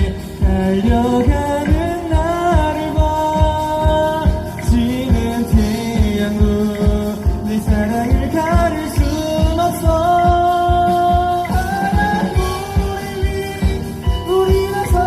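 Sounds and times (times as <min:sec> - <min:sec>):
drum beat: 0:00.0 - 0:15.0
person singing: 0:00.0 - 0:15.0
pop band playing: 0:00.0 - 0:15.0.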